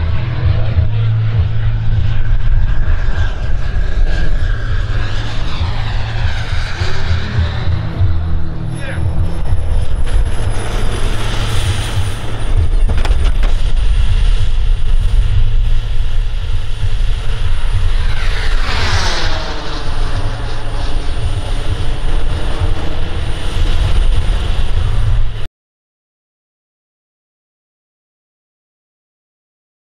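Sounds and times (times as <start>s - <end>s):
jet turbine running: 0.0s - 25.5s.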